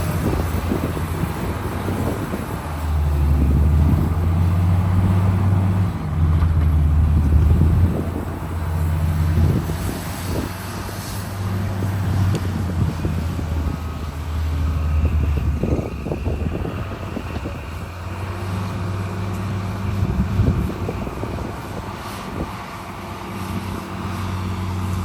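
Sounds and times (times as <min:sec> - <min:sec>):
heavy diesel engine under load: 0:00.0 - 0:25.0.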